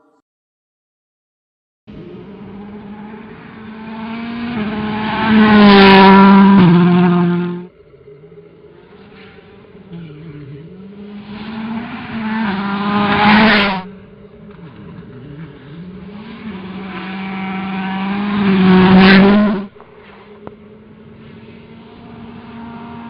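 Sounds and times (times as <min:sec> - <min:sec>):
rally car engine at full throttle: 0:01.9 - 0:23.0.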